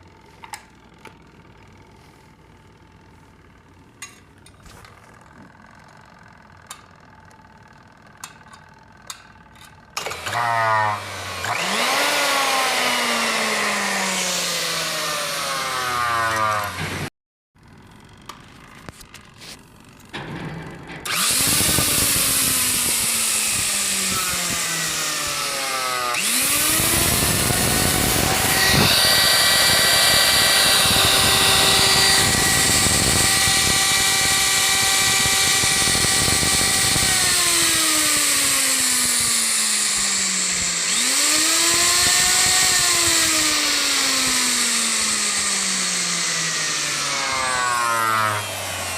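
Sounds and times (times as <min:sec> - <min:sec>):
mixer-grinder motor whine: 0:04.4 - 0:17.1, 0:21.0 - 0:48.9.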